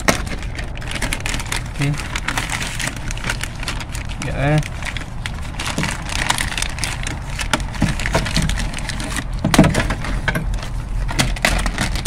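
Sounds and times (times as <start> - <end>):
plastic sheet crinkling as peeled: 0.0 - 12.0.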